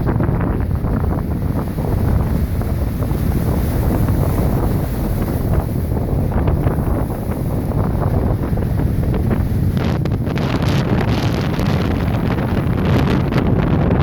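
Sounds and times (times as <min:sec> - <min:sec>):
waves washing: 0:00.0 - 0:14.0
wind buffeting microphone: 0:00.0 - 0:14.0.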